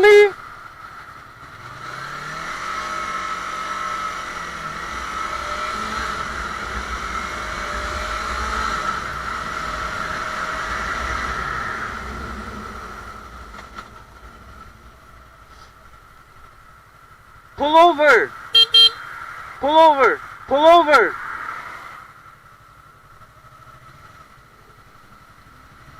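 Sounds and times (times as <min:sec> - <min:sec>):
motorcycle engine: 0:00.0 - 0:25.9
road noise: 0:00.0 - 0:25.9.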